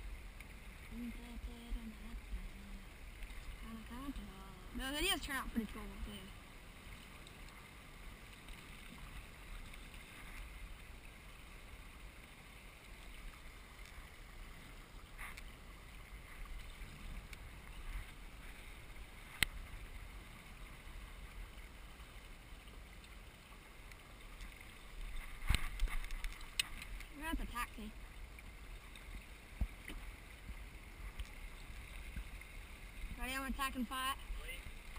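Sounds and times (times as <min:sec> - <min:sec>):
water rushing along hull: 0:00.0 - 0:34.9.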